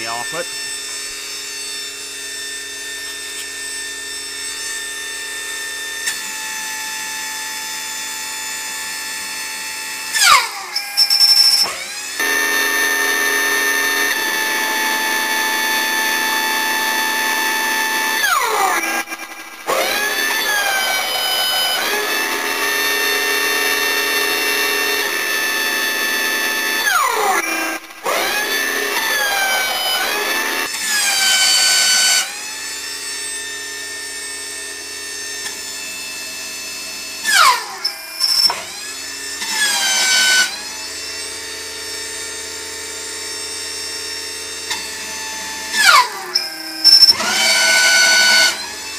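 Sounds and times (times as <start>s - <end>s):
hydraulic pump motor whining: 0.0s - 48.9s.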